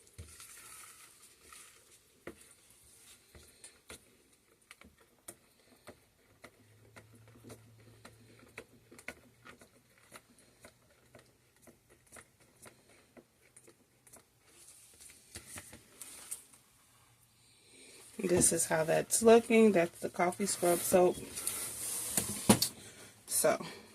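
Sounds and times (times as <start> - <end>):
spatula stirring thick batter: 0.0 - 23.9.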